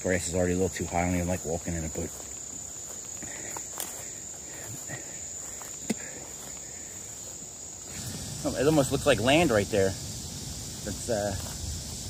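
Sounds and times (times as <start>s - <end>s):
footsteps rustling through grass: 0.0s - 12.0s
high-pitched insect chorus: 0.0s - 12.0s.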